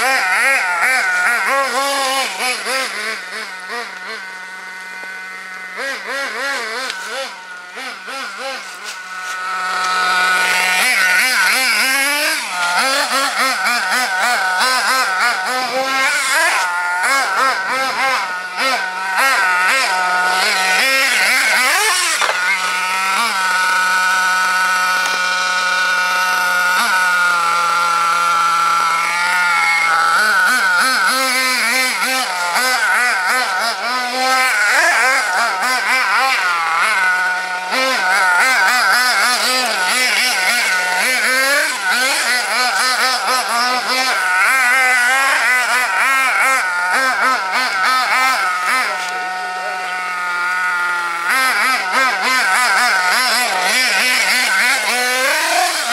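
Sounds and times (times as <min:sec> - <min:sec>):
nitro engine revving: 0:00.0 - 0:55.9.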